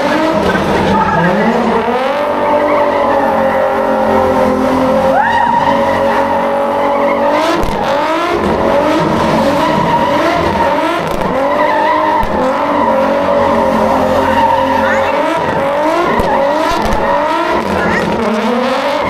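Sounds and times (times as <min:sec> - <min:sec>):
car engine revving hard: 0:00.0 - 0:19.0
tyres squealing: 0:00.0 - 0:19.0.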